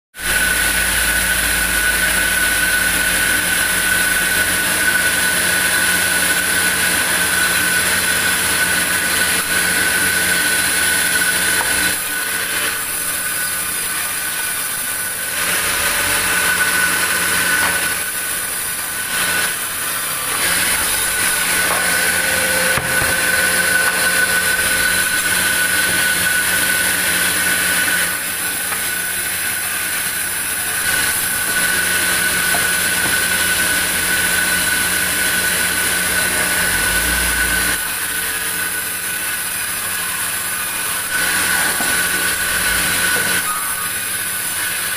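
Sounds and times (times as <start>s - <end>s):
band sawmill whining: 0.2s - 44.9s.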